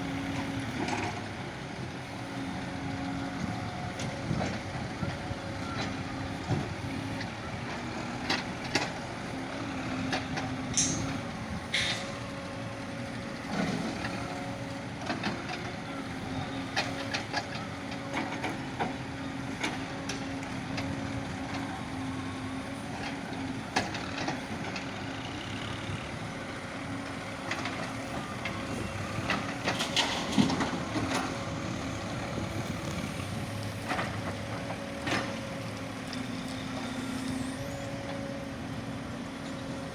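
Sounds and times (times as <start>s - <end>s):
excavator diesel engine working: 0.0s - 39.9s.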